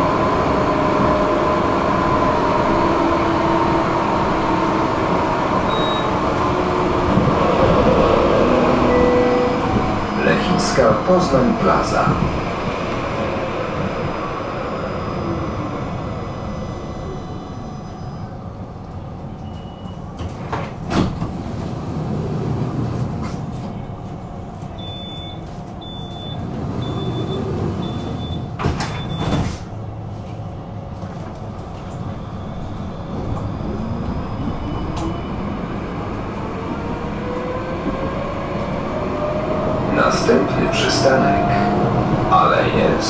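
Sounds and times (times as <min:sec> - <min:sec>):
tram doors clunking shut: 0:03.0 - 0:14.4, 0:18.0 - 0:43.0.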